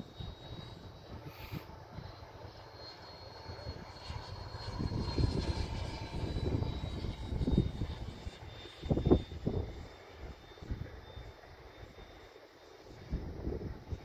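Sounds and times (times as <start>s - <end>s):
model jet fan whine: 0.0s - 14.0s.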